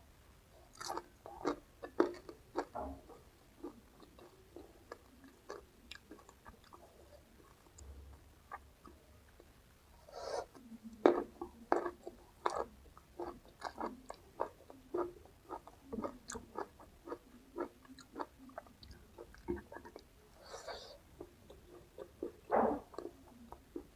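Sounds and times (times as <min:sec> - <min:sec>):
open-mouth chewing: 0:00.7 - 0:23.9.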